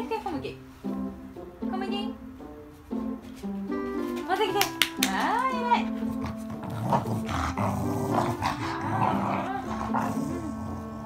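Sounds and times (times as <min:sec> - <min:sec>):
plucked string tune: 0:00.0 - 0:11.0.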